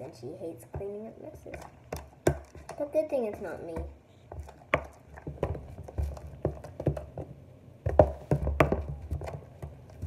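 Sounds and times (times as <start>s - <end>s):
utensil stirring slime: 0.0s - 10.0s
utensil knocking on plastic tub: 0.7s - 10.0s.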